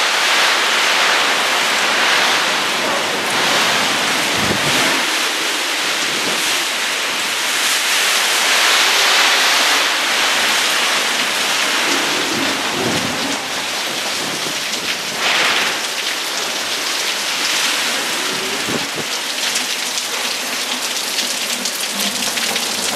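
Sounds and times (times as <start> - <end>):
heavy rain pouring: 0.0 - 22.9.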